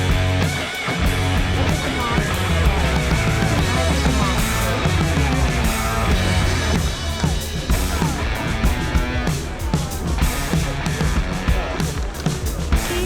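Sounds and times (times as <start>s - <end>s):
rock music with distorted guitars: 0.0s - 13.0s.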